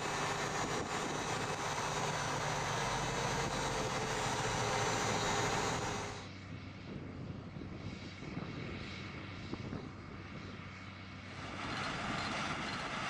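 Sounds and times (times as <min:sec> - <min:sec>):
close vehicle engine: 0:00.0 - 0:08.7, 0:09.6 - 0:13.0
farm machinery engines droning: 0:00.0 - 0:13.0.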